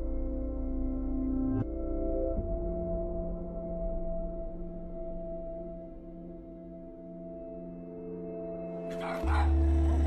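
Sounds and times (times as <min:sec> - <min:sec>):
ambient music of held tones: 0:00.0 - 0:10.0.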